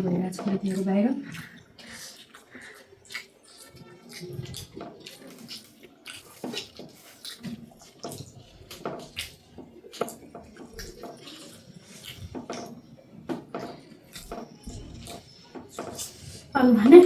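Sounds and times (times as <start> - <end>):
wet chewing and smacking: 0.0 - 17.0.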